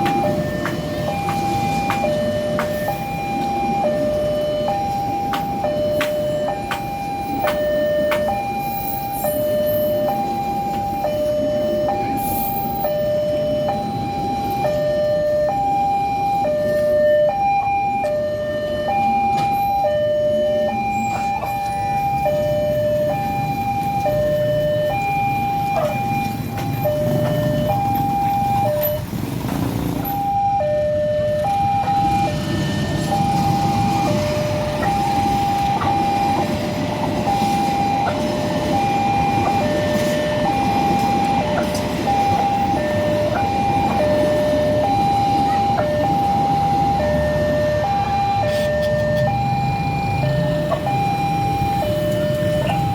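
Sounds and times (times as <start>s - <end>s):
level crossing alarm chime: 0.0s - 29.2s, 30.0s - 52.9s.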